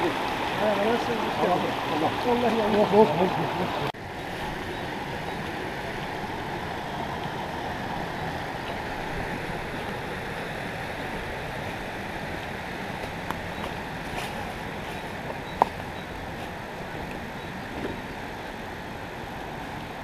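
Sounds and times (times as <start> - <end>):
rushing creek: 0.0 - 20.0.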